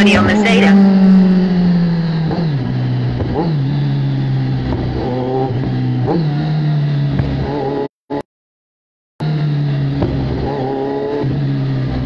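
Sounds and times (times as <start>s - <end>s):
motorcycle engine revving: 0.0s - 8.3s, 9.2s - 12.0s.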